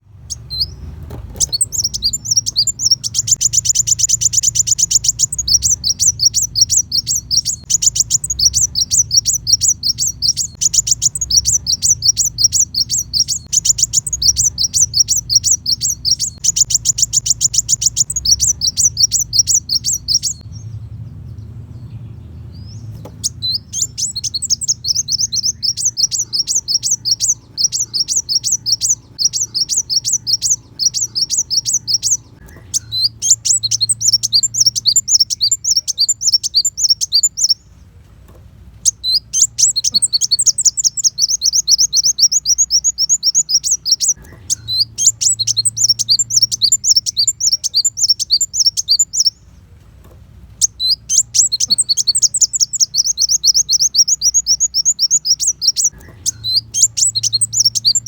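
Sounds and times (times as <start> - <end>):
sunbird high chirps: 0.0 - 38.0, 38.8 - 49.8, 50.5 - 58.0
steady low hum: 0.0 - 58.0.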